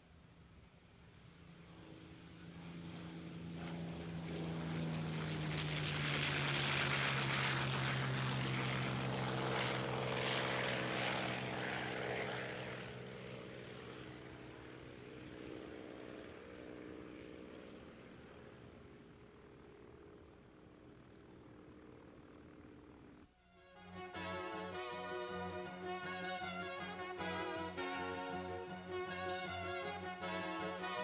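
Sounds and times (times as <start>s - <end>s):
propeller aircraft taking off: 0.0s - 31.0s.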